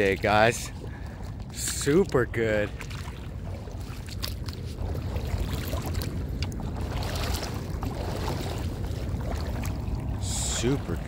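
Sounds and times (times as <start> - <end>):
low rumble: 0.0 - 11.0
water sloshing around wading legs: 0.0 - 11.0.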